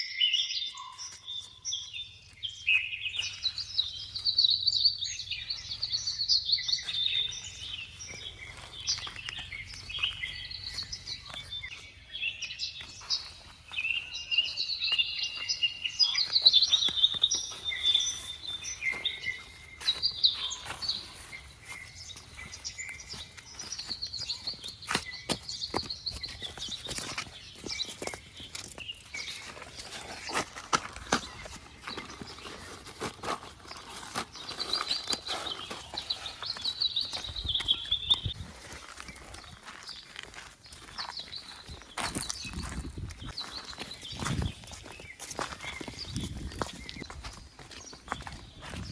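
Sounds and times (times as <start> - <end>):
birds chirping in chorus: 0.0 - 48.9.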